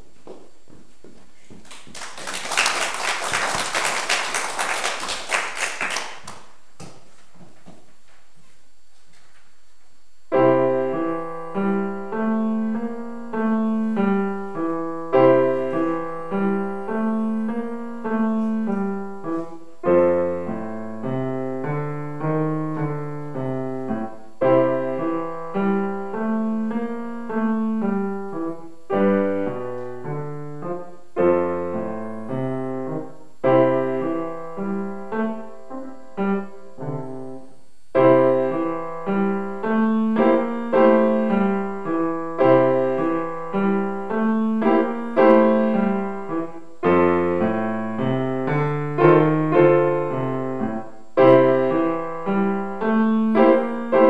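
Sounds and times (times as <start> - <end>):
solo classical piano piece: 10.2 - 54.0.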